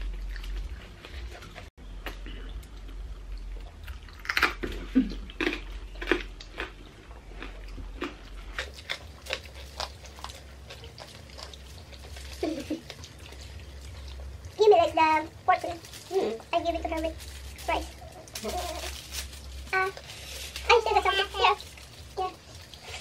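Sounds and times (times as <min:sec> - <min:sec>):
people crunching food: 0:00.0 - 0:23.0.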